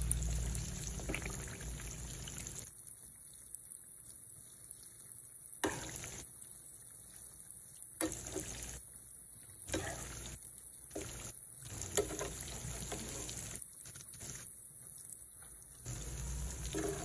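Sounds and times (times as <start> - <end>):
chicken deep-frying in hot oil: 0.0 - 17.0.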